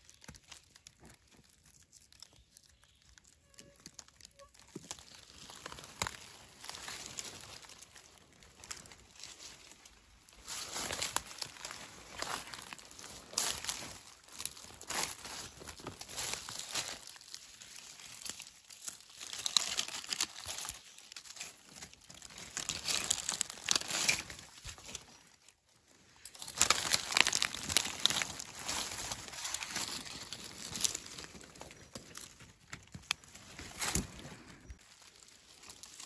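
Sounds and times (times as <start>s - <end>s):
dry leaves crackling and rustling: 0.0s - 36.0s.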